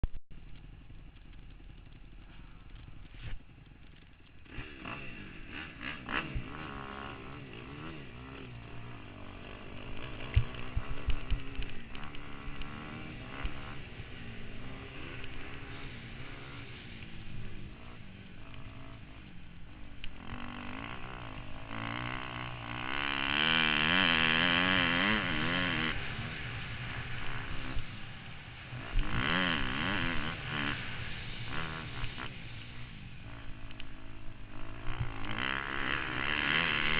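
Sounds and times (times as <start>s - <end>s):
motocross bike engine revving: 1.2s - 36.9s.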